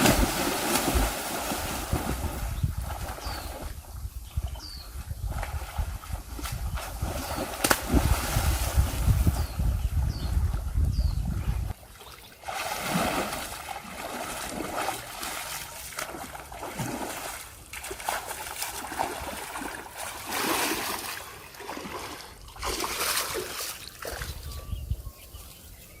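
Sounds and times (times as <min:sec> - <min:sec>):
water splashing and trickling: 0:00.0 - 0:25.0.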